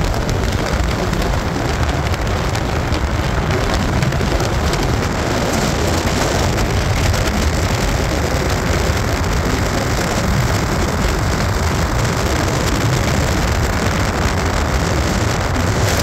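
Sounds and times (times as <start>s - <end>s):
gravel crackling under tyres: 0.0s - 16.0s
vehicle engine and tyre rumble: 0.0s - 16.0s.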